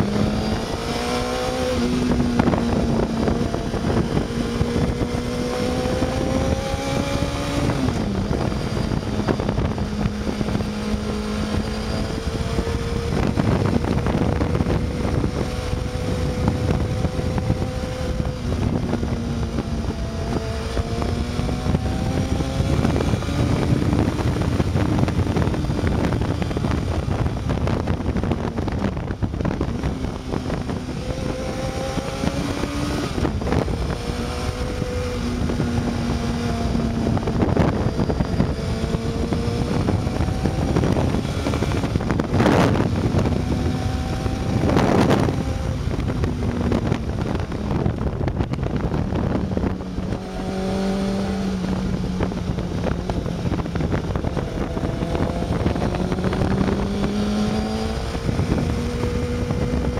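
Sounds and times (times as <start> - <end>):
motorcycle engine revving: 0.0 - 59.9
wind rush on microphone: 0.0 - 59.9.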